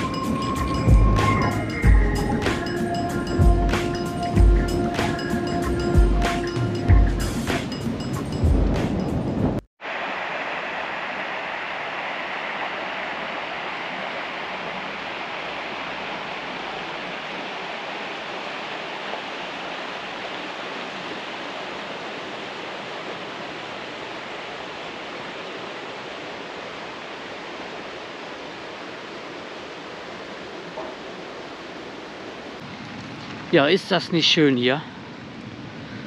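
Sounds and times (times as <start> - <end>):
mountain stream rushing: 0.0 - 36.0.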